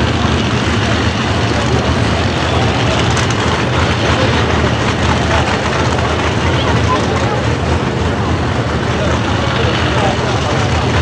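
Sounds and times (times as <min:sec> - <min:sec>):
drag racing car engines idling: 0:00.0 - 0:11.0.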